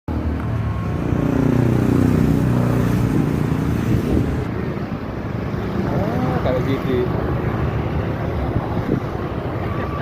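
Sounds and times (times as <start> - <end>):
engine running: 0.1 - 10.0.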